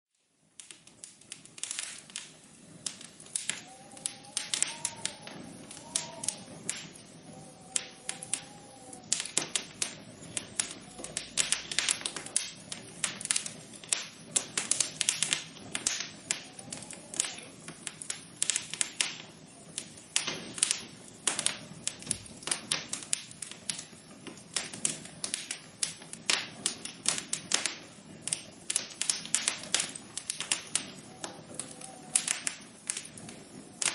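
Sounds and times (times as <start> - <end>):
faint steady hiss: 0.2 - 33.9.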